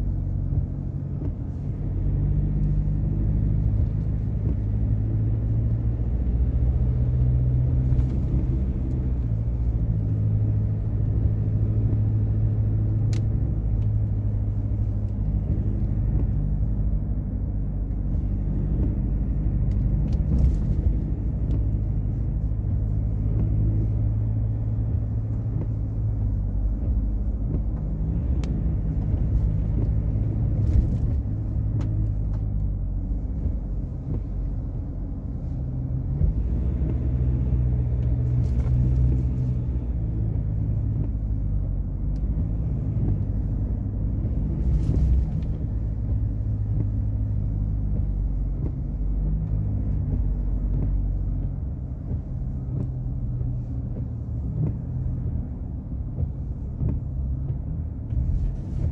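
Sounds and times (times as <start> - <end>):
pickup engine and road rumble: 0.0 - 58.9.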